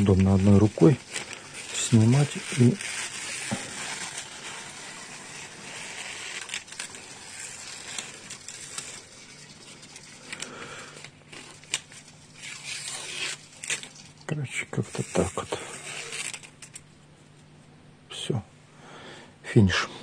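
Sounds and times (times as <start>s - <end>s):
adhesive tape peeling: 0.0s - 14.2s, 15.0s - 16.9s.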